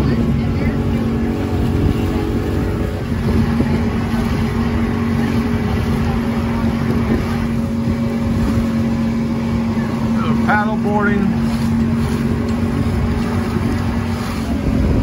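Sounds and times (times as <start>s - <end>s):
outboard motor humming: 0.0s - 15.0s
rushing water: 0.0s - 15.0s
wind: 0.0s - 15.0s.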